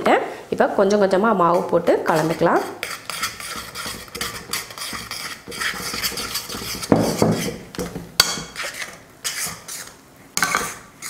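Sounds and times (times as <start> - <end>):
spoon scraping metal pan: 1.4 - 11.0.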